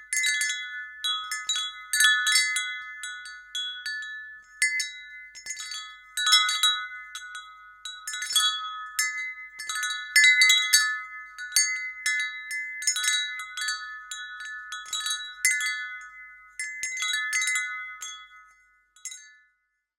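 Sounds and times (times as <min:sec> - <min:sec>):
wind chime ringing: 0:00.0 - 0:19.6.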